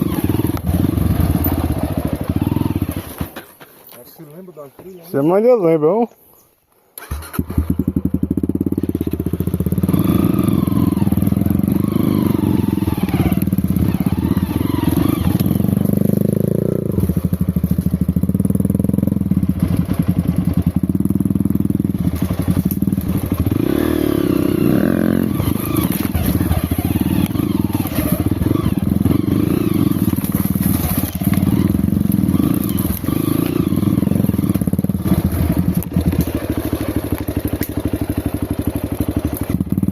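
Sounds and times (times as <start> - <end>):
motorcycle engine revving: 0.0 - 3.6, 7.0 - 39.9.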